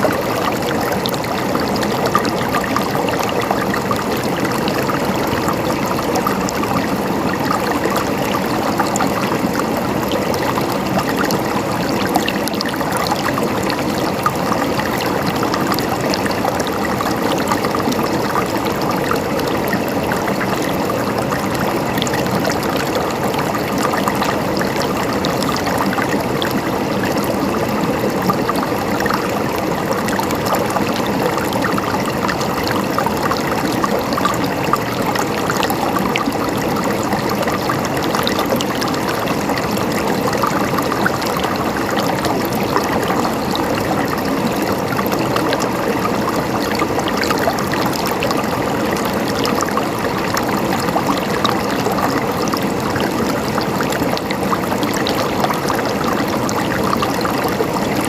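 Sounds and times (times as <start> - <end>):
water gurgling: 0.0 - 58.0.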